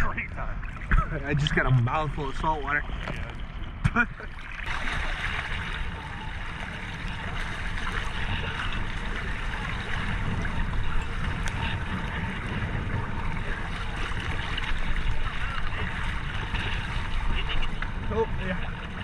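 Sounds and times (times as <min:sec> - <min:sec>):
low rumble: 0:00.0 - 0:19.0
seawater sloshing and gurgling: 0:00.0 - 0:19.0.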